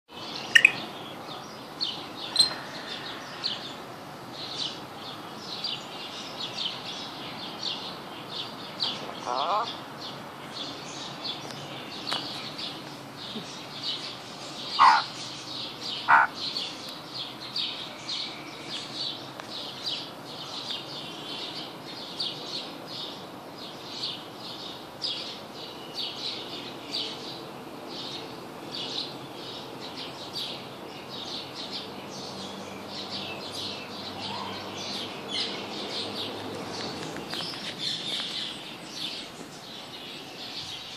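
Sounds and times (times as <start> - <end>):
birds chirping: 0.1 - 40.9
loud sharp bird calls: 0.2 - 27.4, 28.0 - 40.9.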